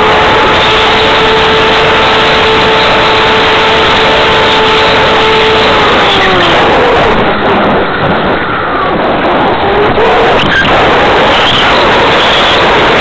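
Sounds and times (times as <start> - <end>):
motor and propeller whine: 0.0 - 13.0
rushing wind noise: 0.0 - 13.0.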